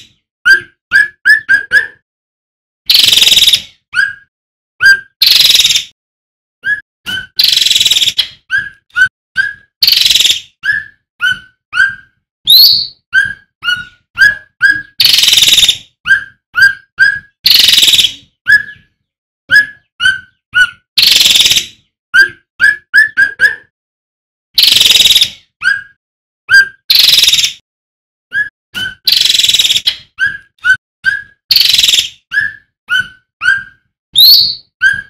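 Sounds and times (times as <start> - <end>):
bird chirping rapidly: 2.9 - 5.9, 6.6 - 18.9, 19.5 - 23.5, 24.6 - 27.6, 28.3 - 35.0.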